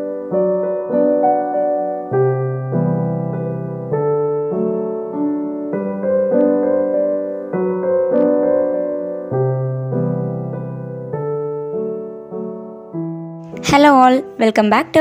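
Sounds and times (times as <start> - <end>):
slow solo piano music: 0.0 - 14.4.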